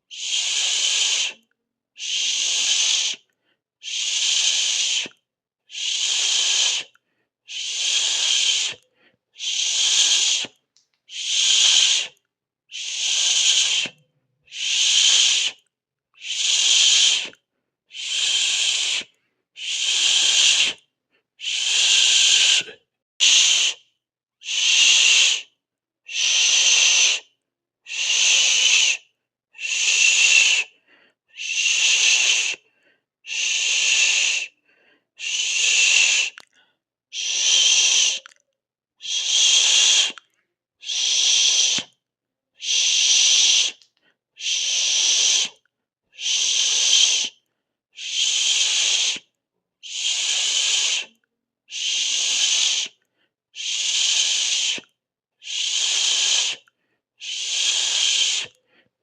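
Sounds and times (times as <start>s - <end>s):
person hissing through teeth: 0.1s - 1.4s, 2.0s - 23.8s, 24.4s - 25.5s, 26.1s - 34.6s, 35.2s - 38.4s, 39.0s - 42.0s, 42.6s - 45.6s, 46.2s - 47.4s, 48.0s - 53.0s, 53.6s - 58.6s.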